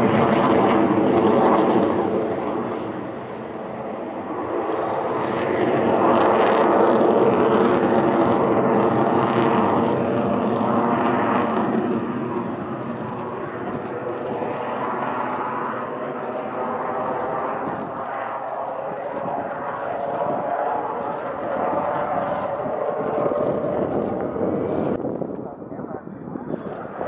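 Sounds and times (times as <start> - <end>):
jet roar: 0.0 - 27.0.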